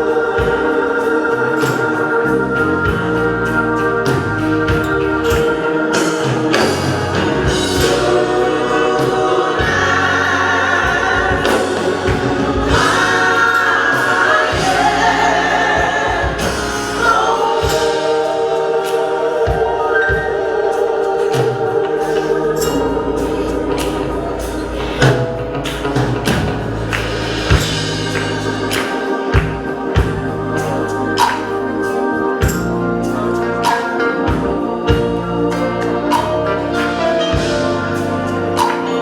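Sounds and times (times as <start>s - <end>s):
gospel choir singing: 0.0s - 39.0s
organ: 0.0s - 39.0s
percussion: 0.0s - 39.0s.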